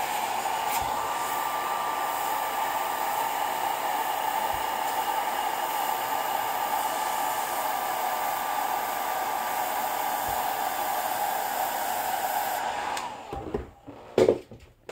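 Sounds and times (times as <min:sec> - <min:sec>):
hair dryer blowing: 0:00.0 - 0:14.3.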